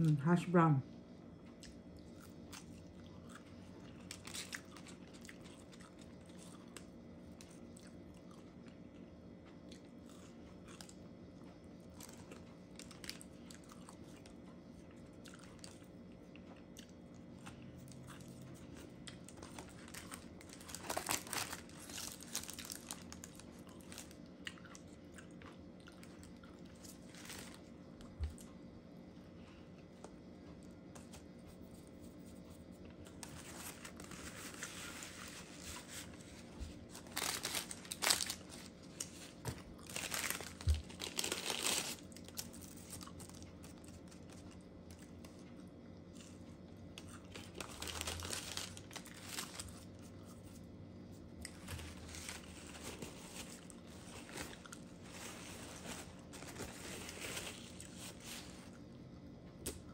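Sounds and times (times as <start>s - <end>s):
steady low hum: 0.0s - 59.9s
crunching and chewing food: 1.1s - 59.9s.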